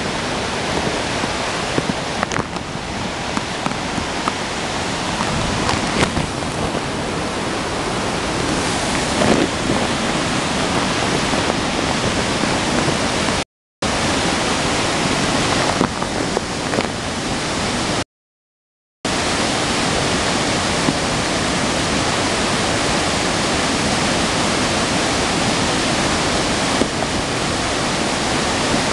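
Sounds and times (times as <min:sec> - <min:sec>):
heavy rain: 0:00.0 - 0:18.0, 0:19.1 - 0:28.9.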